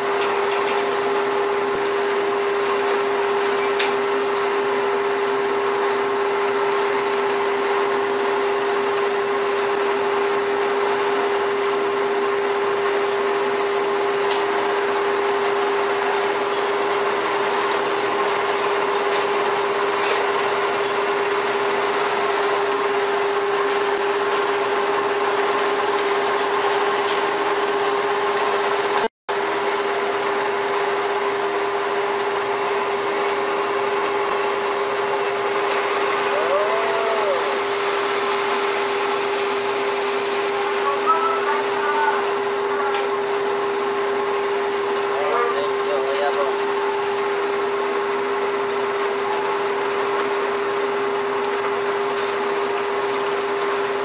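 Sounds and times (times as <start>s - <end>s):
ship engines droning: 0.0s - 54.0s.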